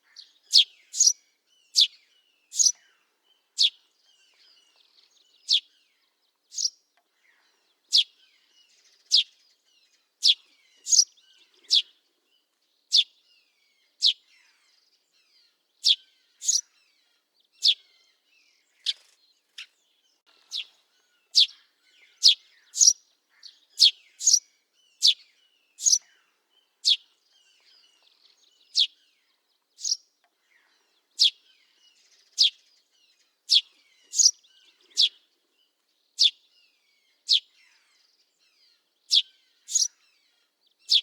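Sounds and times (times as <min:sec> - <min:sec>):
faint background chirping: 0:00.0 - 0:41.0
sparrow chirping: 0:00.0 - 0:41.0.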